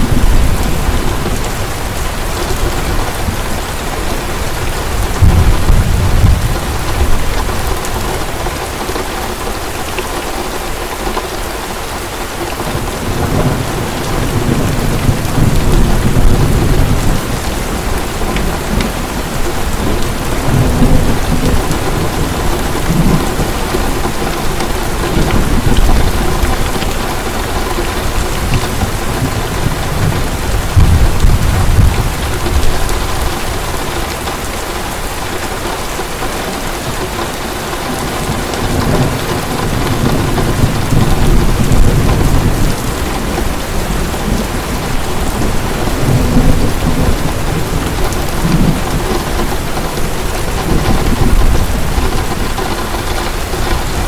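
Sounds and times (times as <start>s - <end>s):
low rolls of thunder: 0.0s - 8.6s, 12.7s - 34.4s, 38.0s - 54.0s
heavy rain falling: 0.0s - 54.0s.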